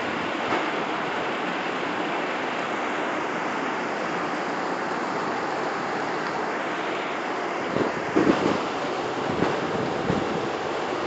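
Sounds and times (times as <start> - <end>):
rainwater rushing along street: 0.0 - 11.0.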